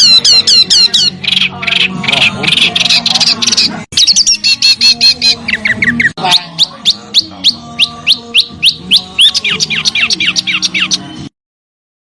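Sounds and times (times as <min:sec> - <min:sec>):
small songbird singing: 0:00.0 - 0:11.3.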